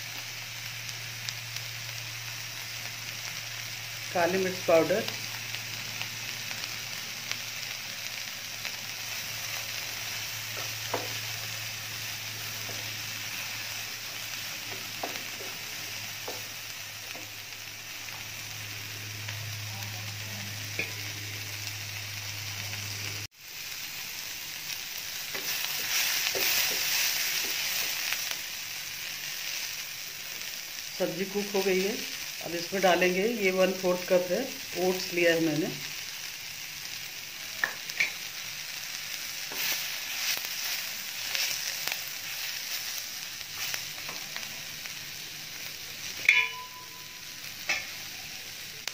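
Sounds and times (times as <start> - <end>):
vegetables sizzling in oil: 0.0 - 48.9.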